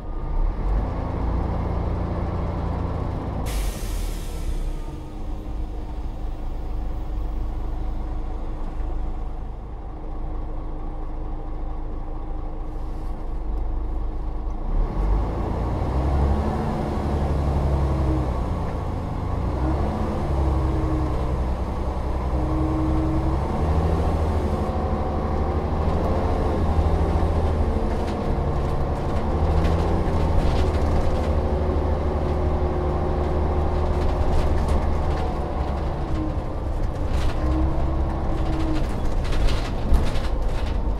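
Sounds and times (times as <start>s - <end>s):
bus diesel engine idling and accelerating: 0.0s - 40.9s.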